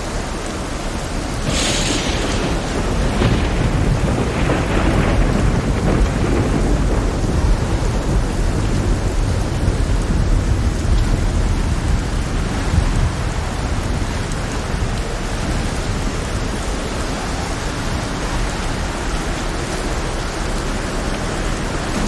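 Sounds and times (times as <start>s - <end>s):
heavy rain hissing: 0.0s - 22.0s
rolling thunder rumble: 0.0s - 22.0s
thunder crack: 1.2s - 22.0s.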